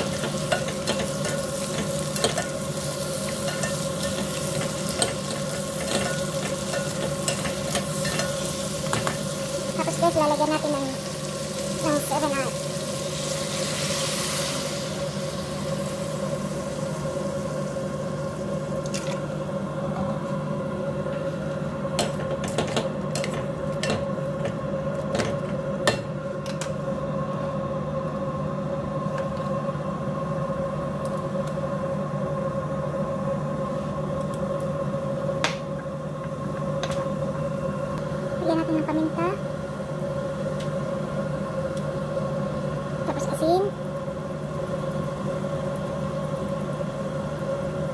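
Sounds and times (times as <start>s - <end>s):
steady hum: 0.0s - 47.9s.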